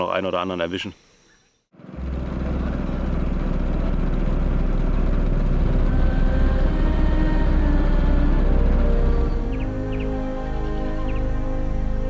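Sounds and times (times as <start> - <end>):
outboard motor running: 1.8 - 12.0.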